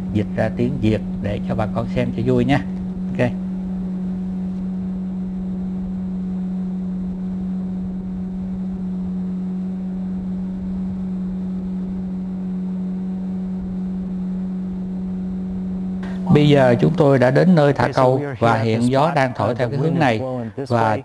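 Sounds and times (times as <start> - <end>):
motorboat engine droning: 0.0 - 21.0.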